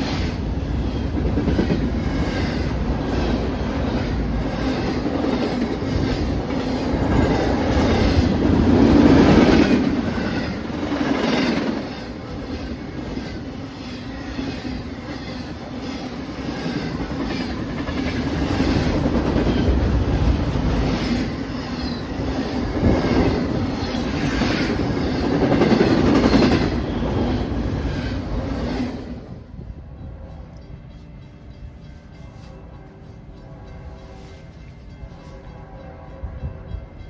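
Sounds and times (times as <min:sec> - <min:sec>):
train cars rumbling past: 0:00.0 - 0:37.0.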